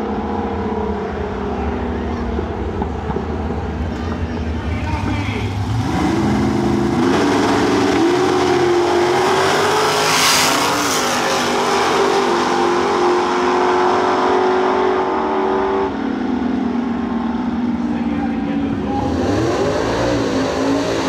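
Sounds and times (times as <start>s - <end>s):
drag cars accelerating at full throttle: 0.0s - 21.0s.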